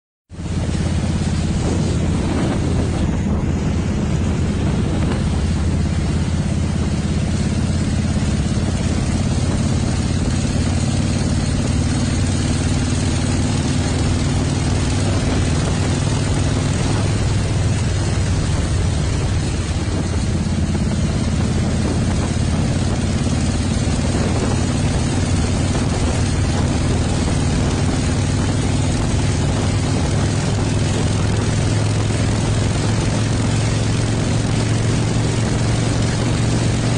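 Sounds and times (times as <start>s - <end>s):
motorcycle engine running: 0.3s - 36.9s.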